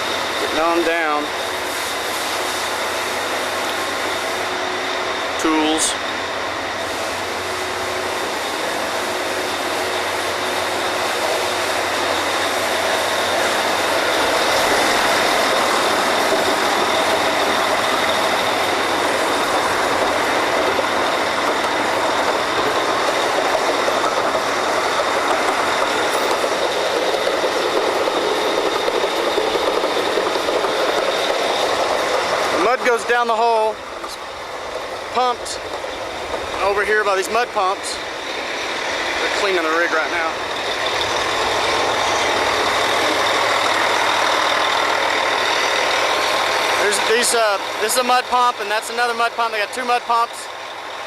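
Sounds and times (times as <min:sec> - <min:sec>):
drilling rig machinery: 0:00.0 - 0:51.0.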